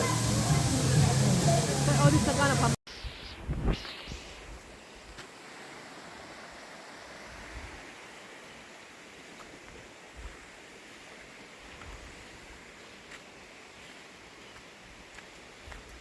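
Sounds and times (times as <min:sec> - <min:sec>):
river water rushing: 0:00.0 - 0:02.8, 0:04.7 - 0:16.0.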